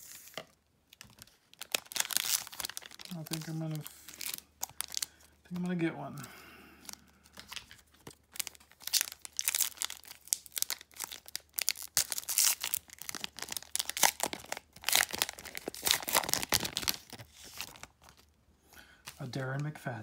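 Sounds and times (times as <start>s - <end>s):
plastic wrapper crinkling and tearing: 0.0s - 6.2s, 6.8s - 18.4s.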